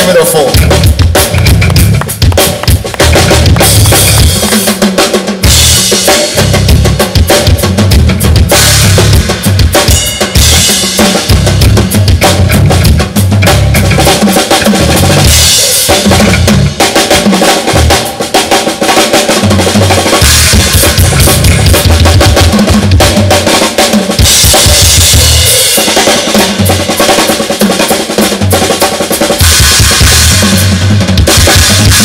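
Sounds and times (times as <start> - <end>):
blues-rock band playing: 0.0 - 32.0
snare drum: 0.0 - 32.0
cymbals: 0.5 - 32.0.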